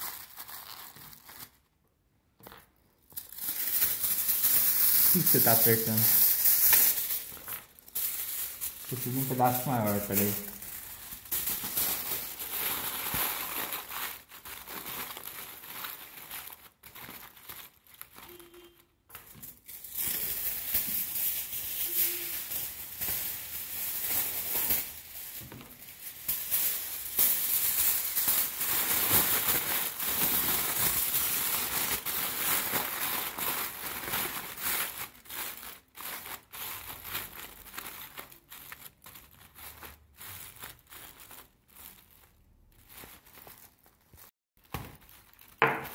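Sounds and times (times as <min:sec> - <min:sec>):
aluminium foil crinkling: 0:00.0 - 0:01.8, 0:02.4 - 0:45.9.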